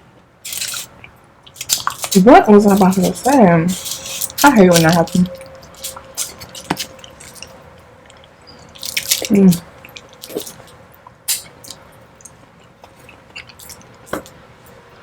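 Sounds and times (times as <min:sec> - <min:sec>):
wet chewing with mouth clicks: 0:00.5 - 0:14.4.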